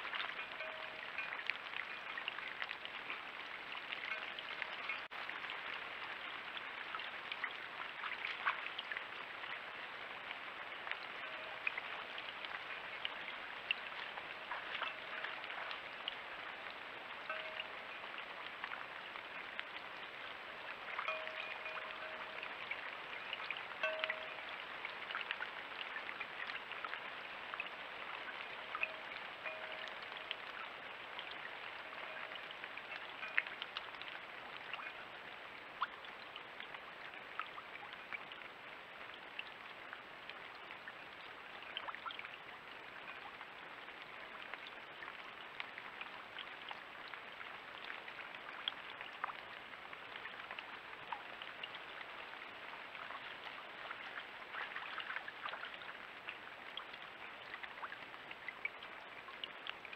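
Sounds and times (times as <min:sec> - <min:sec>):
sharp drip ticks: 0:00.0 - 0:05.8, 0:10.2 - 0:59.9
brook running: 0:00.0 - 0:59.9
rain: 0:00.0 - 0:59.9.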